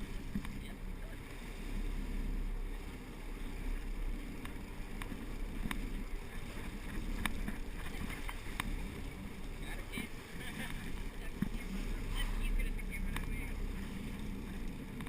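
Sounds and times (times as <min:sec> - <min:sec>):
boat engine rumble: 0:00.0 - 0:15.0
water wash: 0:00.0 - 0:15.0.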